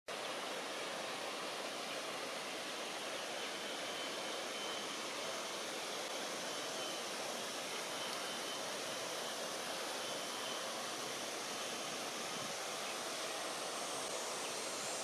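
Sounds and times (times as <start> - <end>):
outdoor background hiss: 0.1 - 15.0.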